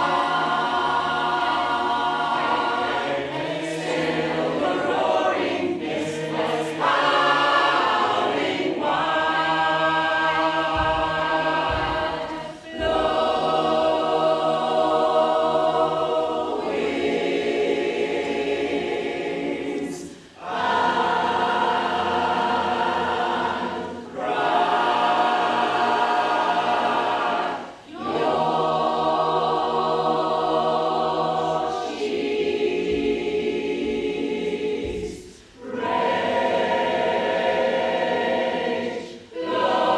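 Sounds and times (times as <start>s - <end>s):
choir singing sustained chords: 0.0s - 39.9s.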